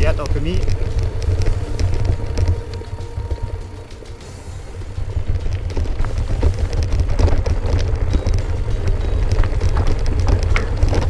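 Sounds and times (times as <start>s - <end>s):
bike rattling on stony trail: 0.0s - 11.0s
wind rumbling on microphone: 0.0s - 11.0s.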